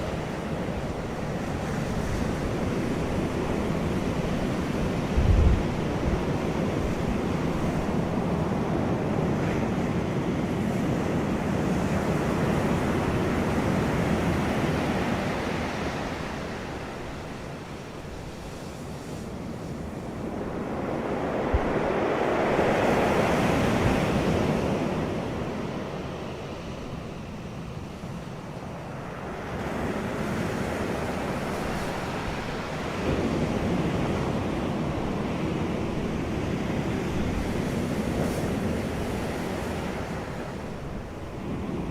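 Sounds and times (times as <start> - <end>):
wind rushing in gusts: 0.0 - 41.9.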